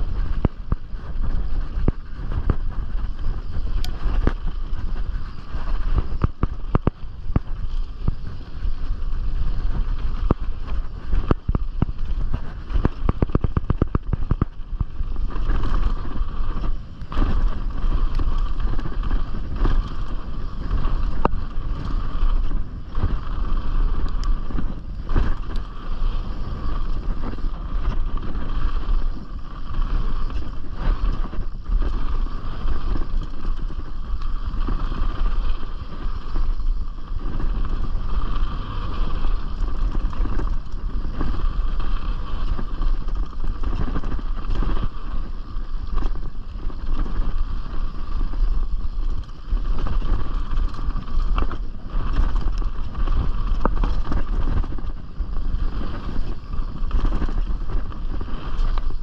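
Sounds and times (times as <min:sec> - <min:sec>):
bike knocking and rattling: 0:00.0 - 0:59.0
wind buffeting microphone: 0:00.0 - 0:59.0.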